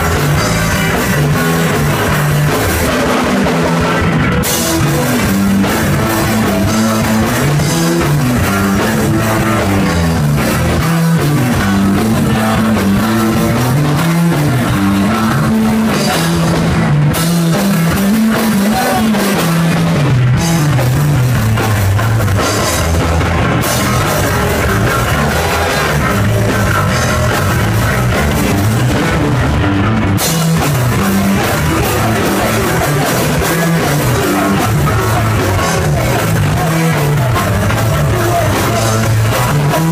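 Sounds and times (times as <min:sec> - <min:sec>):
bass line: 0:00.0 - 0:39.9
drum kit: 0:00.0 - 0:39.9
electric guitar: 0:00.0 - 0:39.9.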